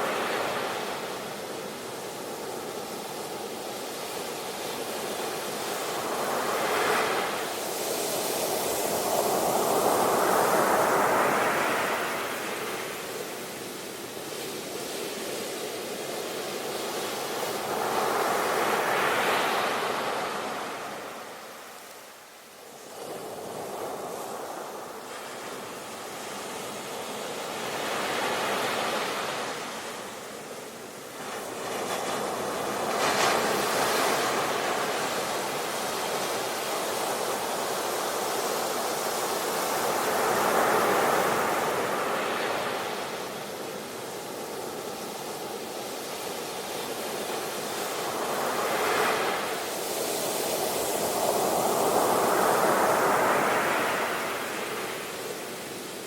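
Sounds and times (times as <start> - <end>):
ocean surf waves breaking: 0.0 - 56.0.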